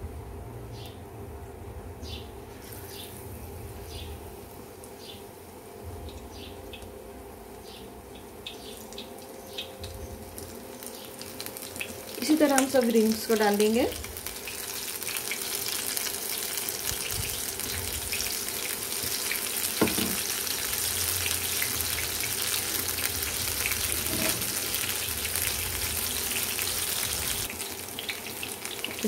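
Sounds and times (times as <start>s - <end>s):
deep-frying oil sizzling: 2.5s - 29.0s.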